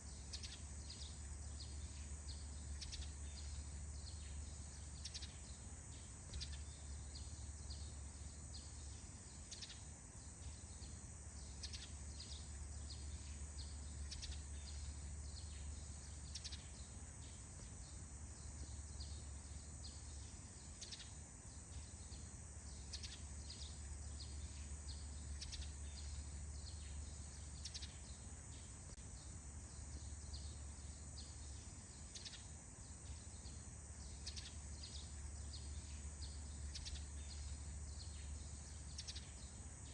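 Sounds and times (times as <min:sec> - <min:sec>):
birds chirping: 0:00.0 - 0:39.9
steady high hiss: 0:00.0 - 0:39.9.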